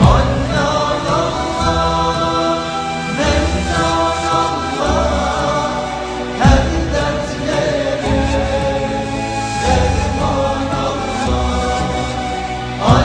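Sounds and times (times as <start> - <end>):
choir-like voices over deep chords: 0.0 - 13.0.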